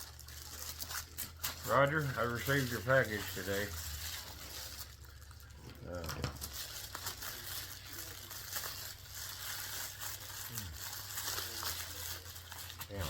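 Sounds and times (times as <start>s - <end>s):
package wrapping crinkling and tearing: 0.0s - 13.0s.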